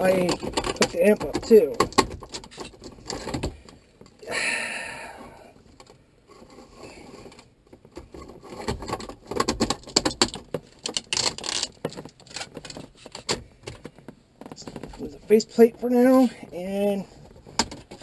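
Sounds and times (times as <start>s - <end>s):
plastic parts clicking and rattling: 0.0s - 4.2s, 5.5s - 18.0s.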